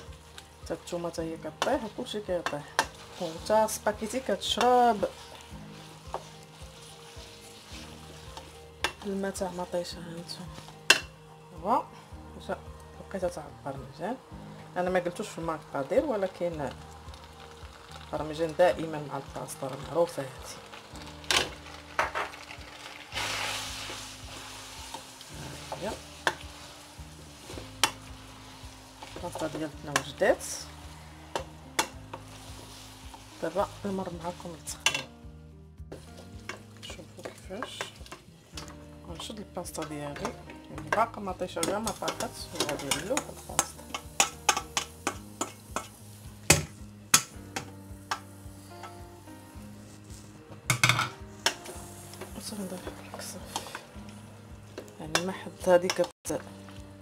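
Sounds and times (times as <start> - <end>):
wooden spoon stirring in pot: 0.0 - 11.1, 14.6 - 35.1, 35.9 - 48.9, 49.7 - 56.7
sauce sizzling in pot: 0.0 - 57.0.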